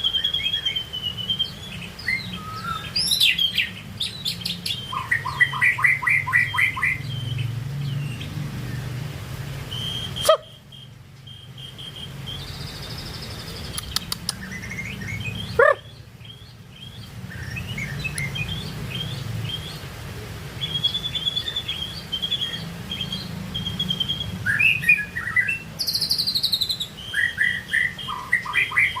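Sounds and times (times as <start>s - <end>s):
songbird whistling song: 0.0s - 8.9s, 9.7s - 19.9s, 20.6s - 29.0s.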